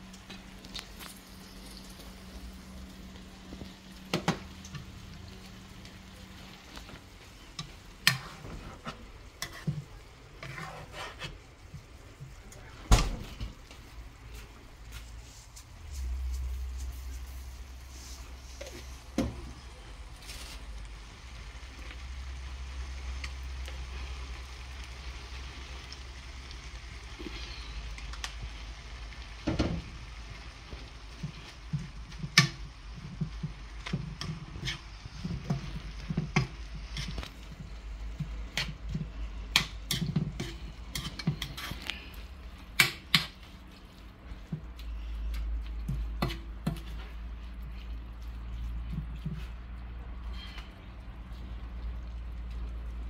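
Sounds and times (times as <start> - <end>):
low steady hum: 0.0 - 53.0
peppers sizzling in frying pan: 0.0 - 53.0.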